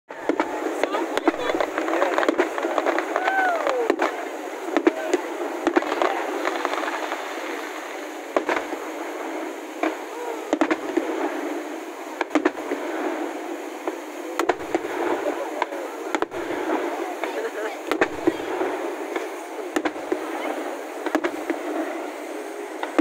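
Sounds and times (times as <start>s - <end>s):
fireworks bangs: 0.1s - 23.0s
steady background hiss: 0.1s - 23.0s.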